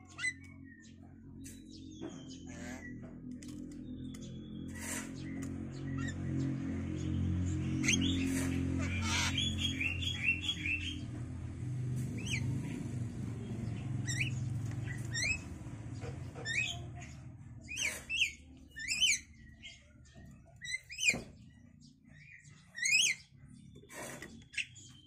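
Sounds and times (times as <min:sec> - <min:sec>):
nestlings chirping: 0:00.0 - 0:11.2, 0:12.0 - 0:25.0.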